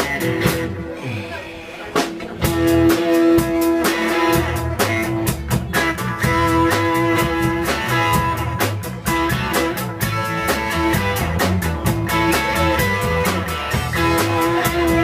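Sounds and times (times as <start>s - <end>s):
drum kit steady beat: 0.0s - 1.3s, 1.9s - 15.0s
bass guitar: 0.0s - 15.0s
electric guitar long notes: 0.0s - 15.0s.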